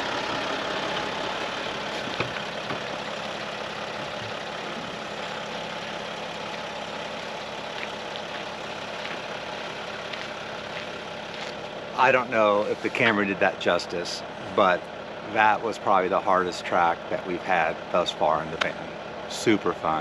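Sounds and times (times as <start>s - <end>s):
van engine running and idling: 0.0s - 20.0s.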